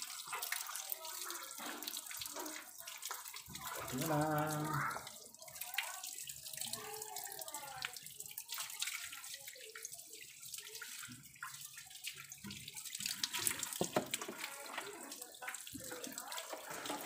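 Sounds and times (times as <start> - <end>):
garden hose water splashing: 0.0 - 17.0
water dripping: 0.0 - 17.0.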